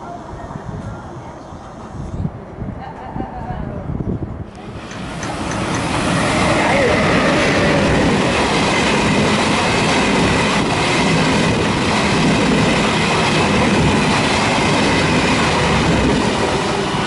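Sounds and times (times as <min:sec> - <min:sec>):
train wheels rumbling on rails: 0:00.2 - 0:17.0.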